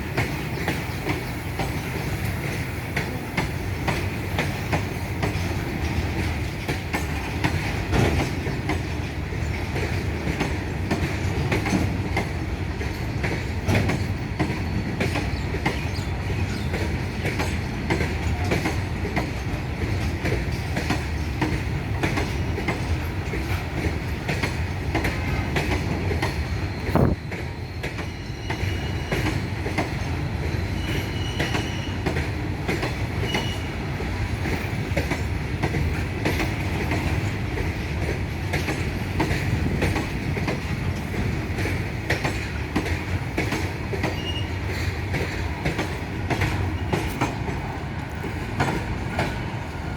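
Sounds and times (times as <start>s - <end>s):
train wheels clattering over rail joints: 0.0s - 49.9s.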